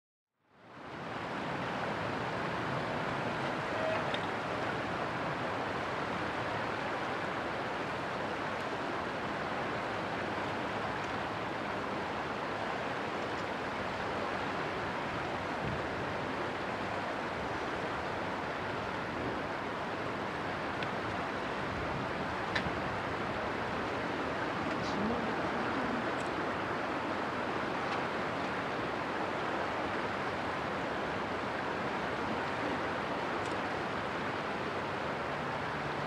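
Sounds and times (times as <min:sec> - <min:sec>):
wind: 0:00.3 - 0:36.0
flowing river water: 0:00.4 - 0:36.0.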